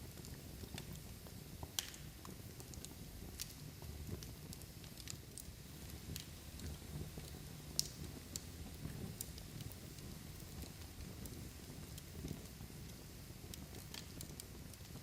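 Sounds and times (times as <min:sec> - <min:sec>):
log fire crackling and popping: 0:00.0 - 0:15.0
low rumble of flames: 0:00.0 - 0:15.0.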